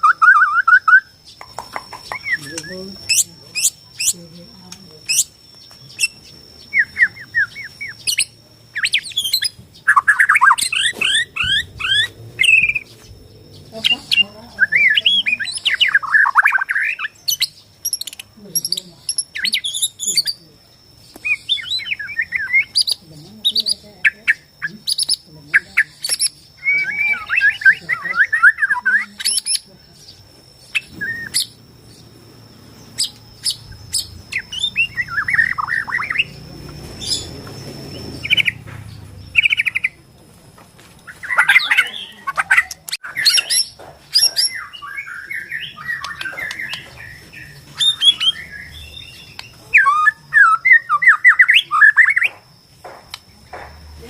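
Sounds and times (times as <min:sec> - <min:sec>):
bird singing: 0:00.0 - 0:40.3, 0:41.0 - 0:54.0
thin steady high tone: 0:00.0 - 0:54.0.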